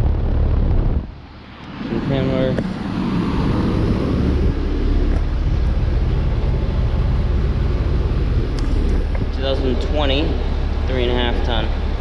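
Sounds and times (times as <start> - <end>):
compressor hum: 0.0 - 12.0
condenser fan rushing: 1.1 - 12.0.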